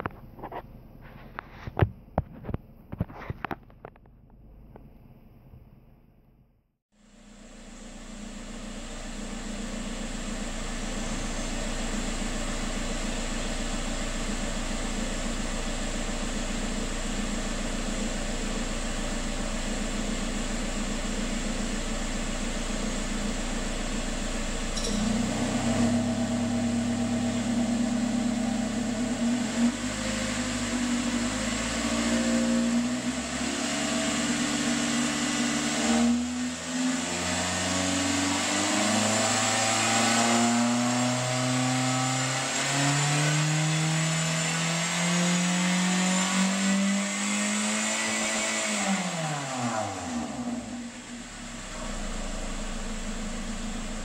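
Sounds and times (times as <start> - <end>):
car exhaust idling and revving: 7.0 - 54.0.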